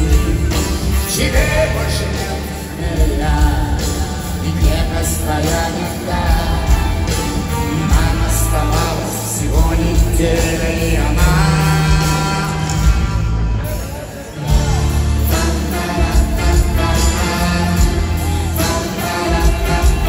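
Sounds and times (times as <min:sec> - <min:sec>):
live rock-pop band: 0:00.0 - 0:20.0
man singing: 0:00.0 - 0:20.0.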